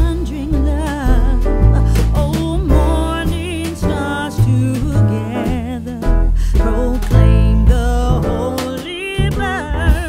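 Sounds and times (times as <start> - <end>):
song with singing bass and drums: 0.0 - 10.0.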